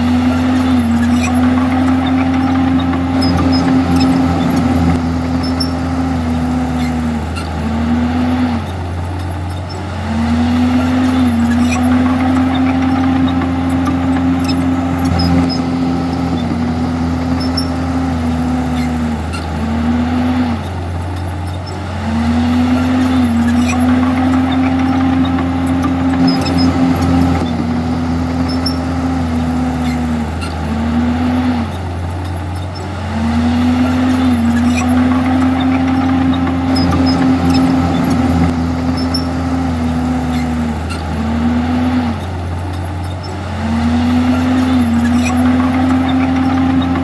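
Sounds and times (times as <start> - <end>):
bulldozer diesel engine under load: 0.0 - 47.0.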